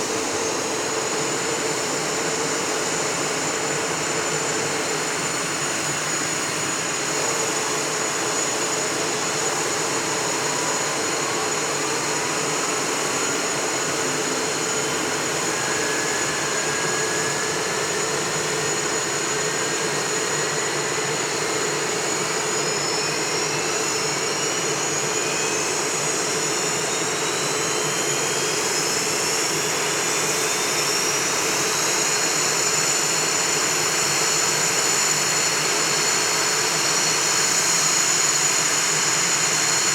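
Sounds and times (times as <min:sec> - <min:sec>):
steady high turbine whine: 0:00.0 - 0:39.9.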